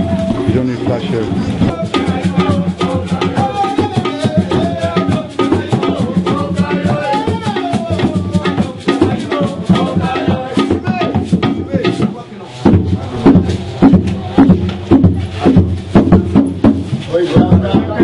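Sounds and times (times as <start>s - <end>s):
fast hand drum rhythm: 0.0s - 18.0s
voices singing: 0.0s - 18.0s.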